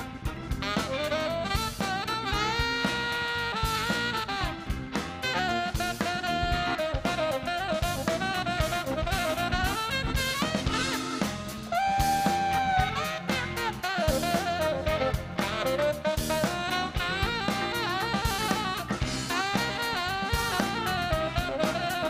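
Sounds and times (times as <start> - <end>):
drums: 0.0 - 22.0
keyboard: 0.0 - 22.0
tenor saxophone solo: 0.0 - 22.0.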